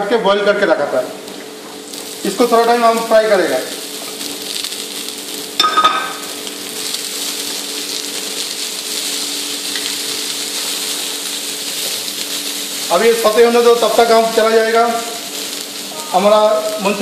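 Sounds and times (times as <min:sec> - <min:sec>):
steady low hum: 0:00.0 - 0:17.0
vegetables sizzling in a wok: 0:01.2 - 0:17.0.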